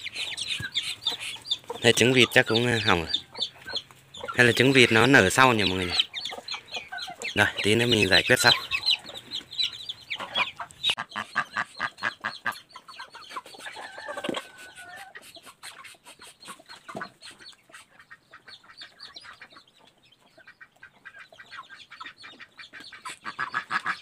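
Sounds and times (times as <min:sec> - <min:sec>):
chickens clucking: 0:00.0 - 0:24.0
chicks peeping: 0:00.0 - 0:24.0.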